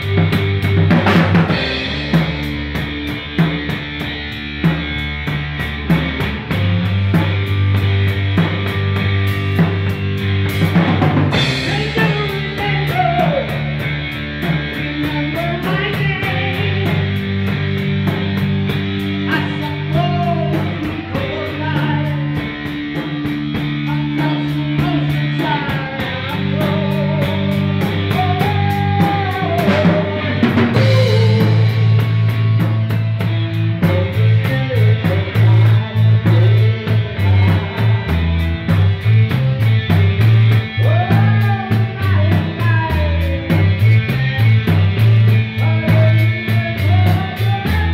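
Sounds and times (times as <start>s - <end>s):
drum kit with cymbal strokes: 0.0s - 47.9s
electric bass low notes: 0.0s - 47.9s
electric guitar: 0.0s - 47.9s.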